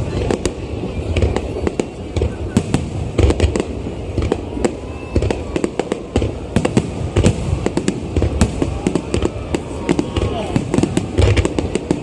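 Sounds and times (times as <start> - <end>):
fireworks booms and cracks: 0.0 - 12.0.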